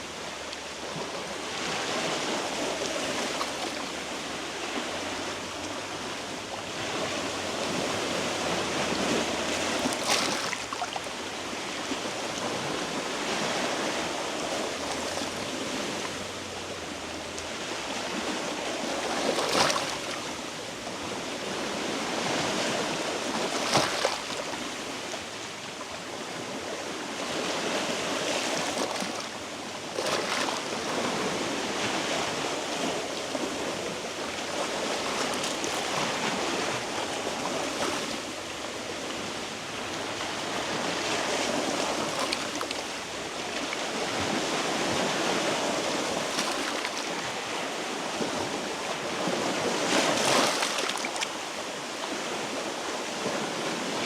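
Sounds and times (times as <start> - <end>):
waves washing against rocks: 0.0 - 54.0.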